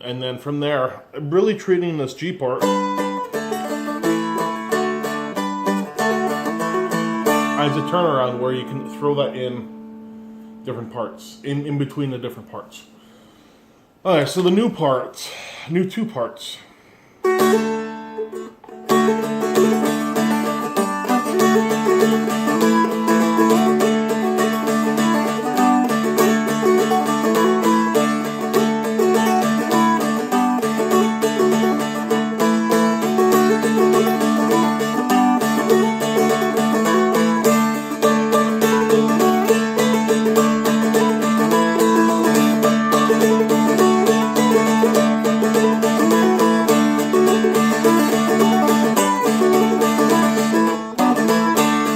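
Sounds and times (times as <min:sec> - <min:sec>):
dulcimer jig melody: 0:02.6 - 0:10.0, 0:17.3 - 0:51.9.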